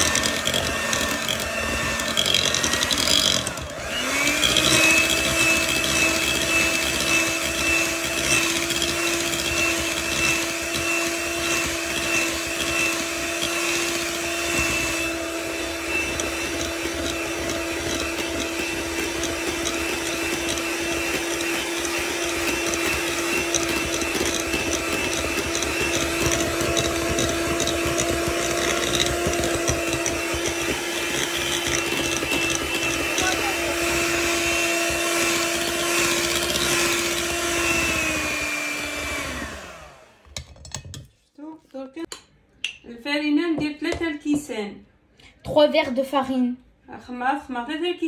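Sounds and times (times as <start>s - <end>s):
electric hand mixer running: 0.0s - 40.2s.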